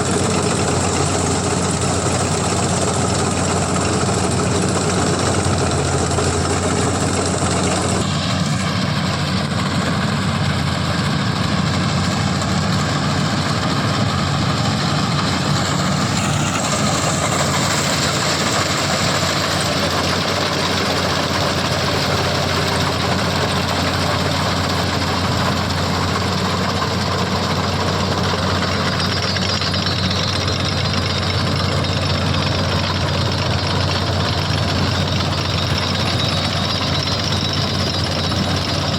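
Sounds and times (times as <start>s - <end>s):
dense mechanical noise: 0.0s - 38.9s
diesel engine running steadily: 0.0s - 38.9s.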